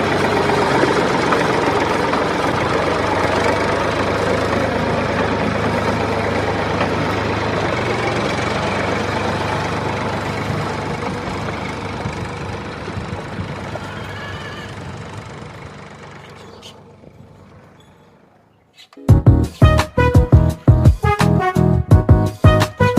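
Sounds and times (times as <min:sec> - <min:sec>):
tractor engine knocking idle: 0:00.0 - 0:18.6.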